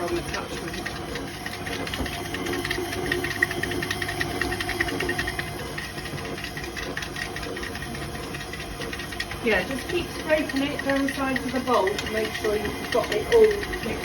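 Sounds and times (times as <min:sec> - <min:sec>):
electric mixer beating dough: 0:00.0 - 0:14.0.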